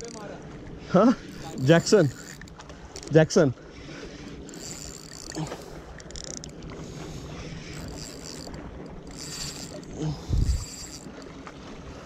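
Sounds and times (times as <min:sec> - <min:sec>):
fishing reel whirring: 0:00.0 - 0:00.4, 0:01.1 - 0:03.1, 0:03.9 - 0:11.5
sea: 0:00.0 - 0:12.0
wind: 0:00.0 - 0:12.0.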